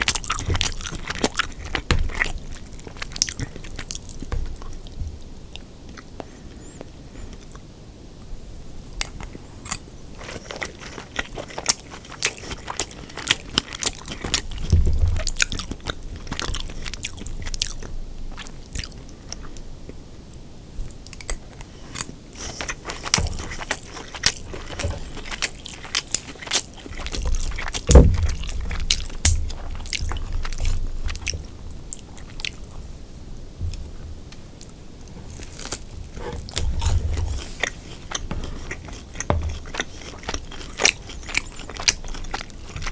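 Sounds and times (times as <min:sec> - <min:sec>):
chewing crispy fried pork: 0:00.0 - 0:07.7, 0:09.0 - 0:33.9, 0:34.5 - 0:42.9.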